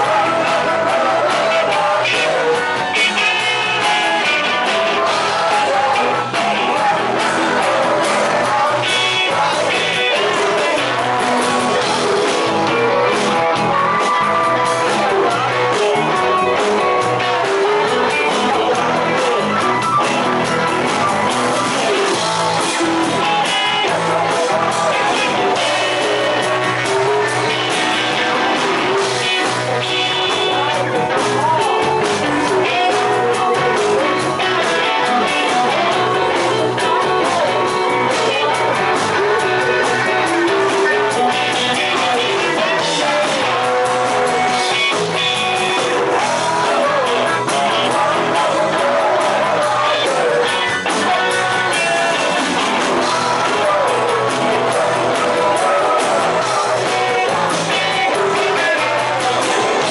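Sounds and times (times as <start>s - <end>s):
electric guitars: 0.0s - 59.9s
lead vocal singing: 0.0s - 59.9s
rock and roll song: 0.0s - 59.9s.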